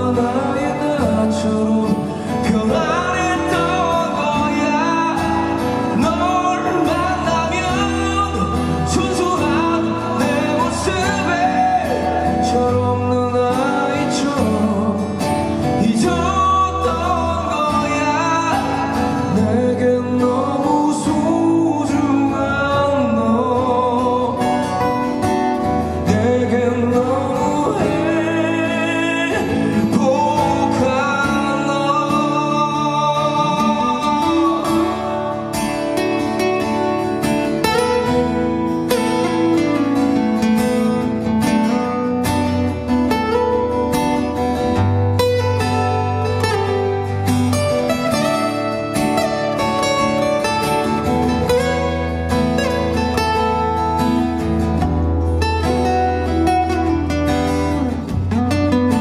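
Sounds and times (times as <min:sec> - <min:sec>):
acoustic guitar: 0:00.0 - 0:59.0
man singing: 0:00.0 - 0:59.0.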